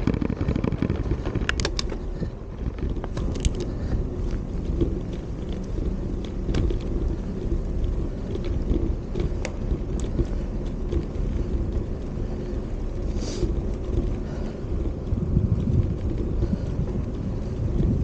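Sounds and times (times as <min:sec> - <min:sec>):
bike clicks and rattles: 0:00.0 - 0:18.0
tyres on paving stones: 0:00.0 - 0:18.0
wind buffeting microphone: 0:00.0 - 0:18.0.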